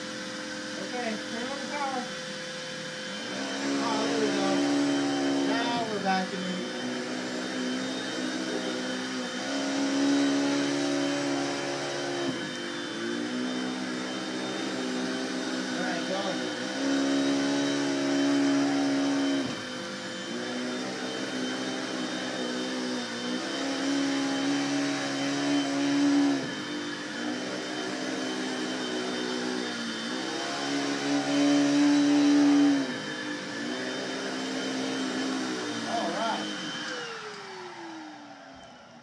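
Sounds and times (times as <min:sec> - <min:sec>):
vacuum cleaner motor running: 0:00.0 - 0:39.0.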